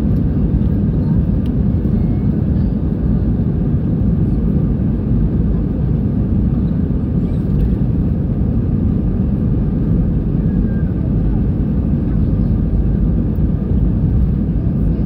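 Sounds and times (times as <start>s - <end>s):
airliner rumble inside cabin: 0.0s - 15.0s.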